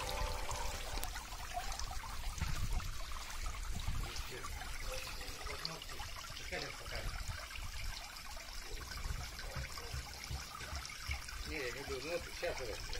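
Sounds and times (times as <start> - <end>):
fountain water splashing: 0.0 - 12.9.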